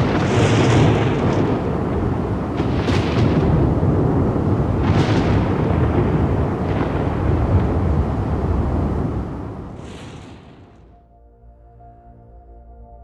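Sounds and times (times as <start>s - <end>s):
thunder claps crackling: 0.0s - 10.9s
thunder rumble: 0.0s - 10.9s.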